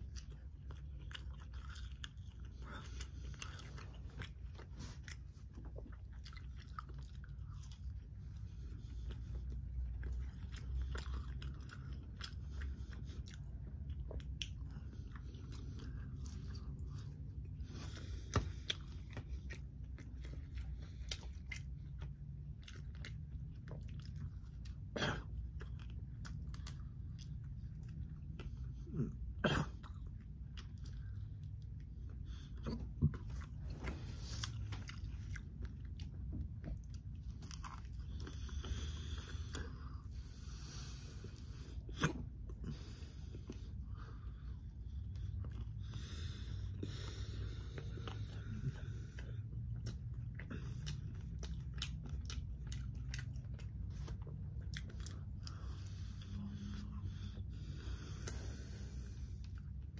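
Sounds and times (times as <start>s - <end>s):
person chewing crispy food: 0.0s - 59.9s.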